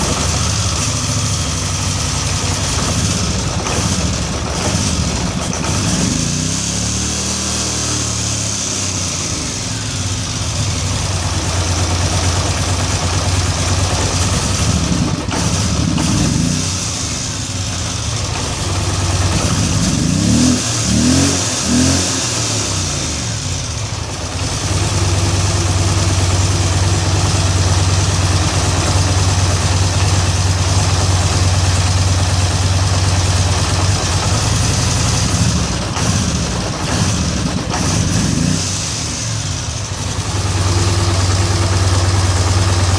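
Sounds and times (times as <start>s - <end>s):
atv engine idling roughly: 0.0s - 42.9s.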